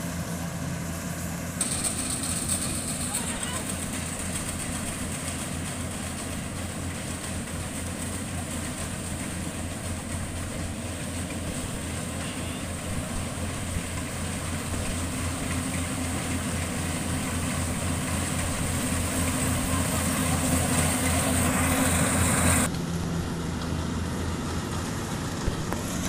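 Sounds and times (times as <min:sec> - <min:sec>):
harvester engine droning: 0:00.0 - 0:26.0.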